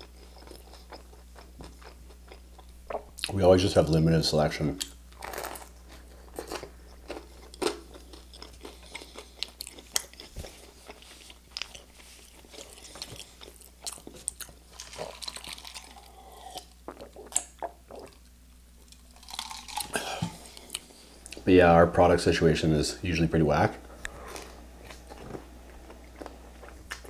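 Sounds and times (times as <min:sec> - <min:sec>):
person chewing crunchy toast: 0:00.0 - 0:03.3, 0:04.8 - 0:21.4, 0:24.1 - 0:27.0.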